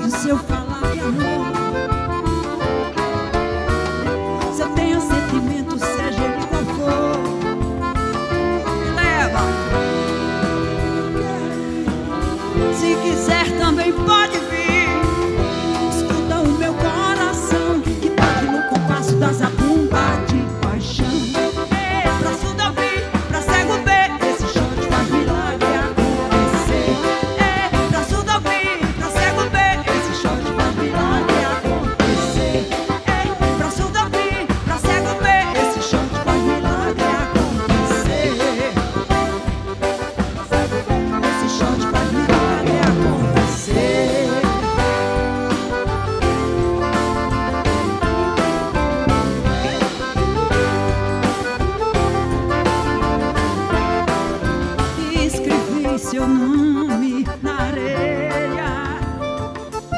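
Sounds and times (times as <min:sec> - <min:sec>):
woman singing with vibrato: 0:00.0 - 0:02.2, 0:04.1 - 0:07.8, 0:08.6 - 0:45.5, 0:49.1 - 0:50.7, 0:54.9 - 0:59.4
accordion: 0:00.0 - 0:59.9
drum kit: 0:00.0 - 0:59.9
electric bass: 0:00.0 - 0:59.9.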